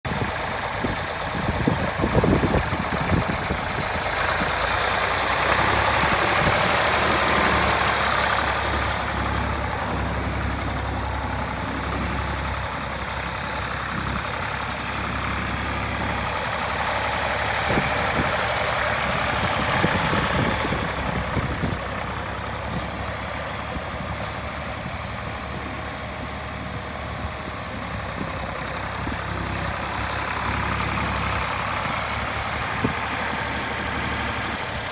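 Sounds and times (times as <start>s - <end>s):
engine knocks: 0.0s - 34.9s
tractor engine running: 0.0s - 34.9s.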